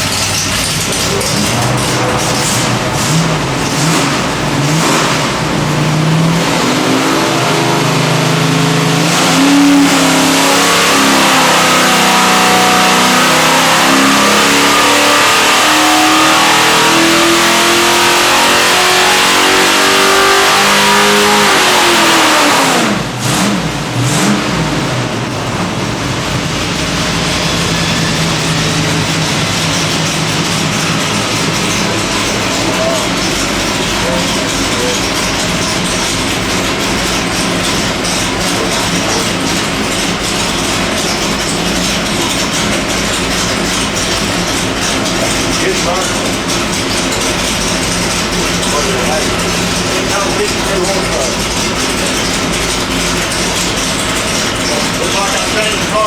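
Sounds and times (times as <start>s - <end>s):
engine revving on a dyno: 0.0s - 56.0s.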